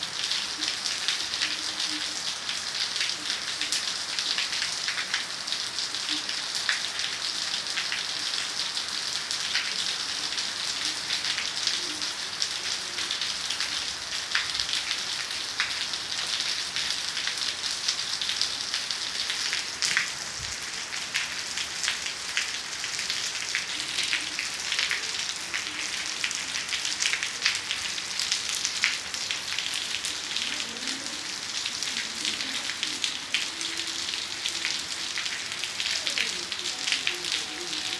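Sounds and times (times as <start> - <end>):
raindrops ticking on surfaces: 0.0 - 37.9.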